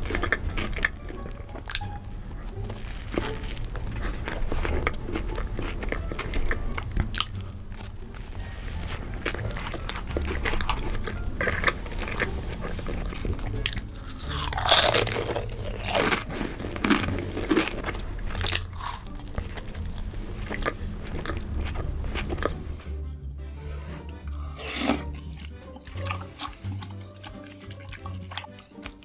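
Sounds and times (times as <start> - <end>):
crunchy chewing: 0.0 - 22.8, 23.8 - 29.0.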